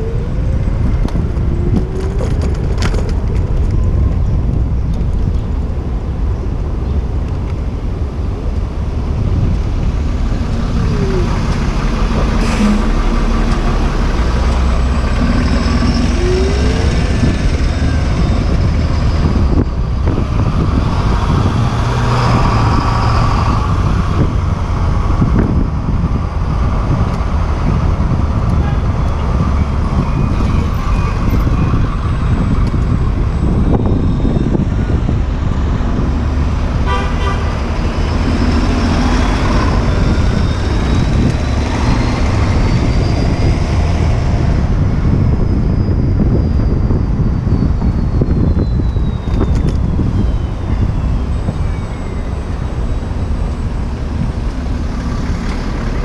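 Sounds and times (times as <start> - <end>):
cars and trucks passing: 0.0 - 56.0
wind rumble on microphone: 0.0 - 56.0.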